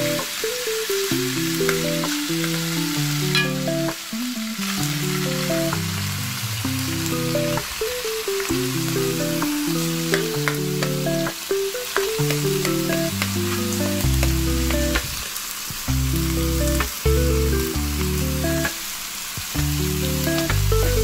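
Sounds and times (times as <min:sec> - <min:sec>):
background music with bass: 0:00.0 - 0:07.8, 0:08.4 - 0:11.4, 0:12.0 - 0:15.2, 0:15.8 - 0:18.8, 0:19.5 - 0:21.0
meat sizzling in a frying pan: 0:00.1 - 0:04.2, 0:04.8 - 0:21.0.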